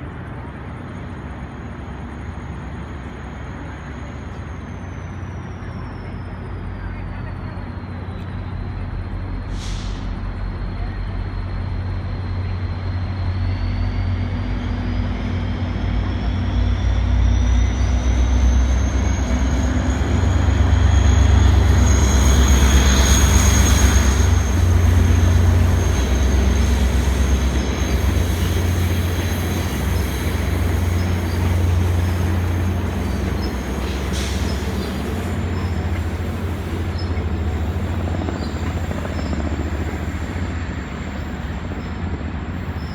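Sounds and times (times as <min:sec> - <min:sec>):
diesel train engine drone: 0:00.0 - 0:42.9.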